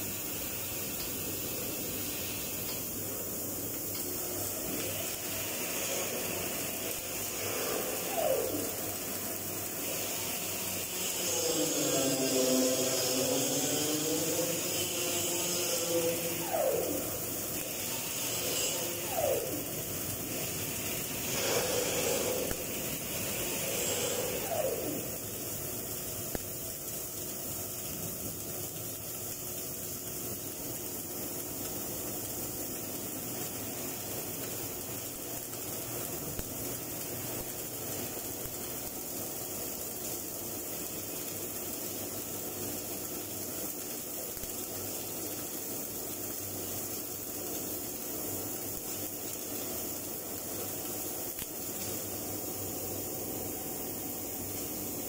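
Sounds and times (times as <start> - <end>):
welding arc crackling and hissing: 0.0 - 55.0.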